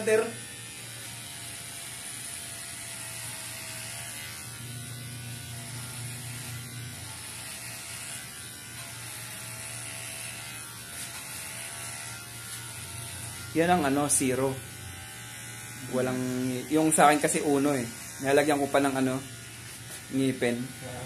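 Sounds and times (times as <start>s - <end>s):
electric hair clipper buzzing: 0.0s - 21.0s.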